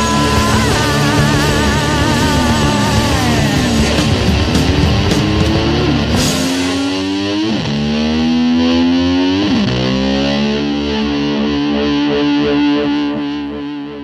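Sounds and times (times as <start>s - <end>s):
distorted electric guitar: 0.0s - 14.0s.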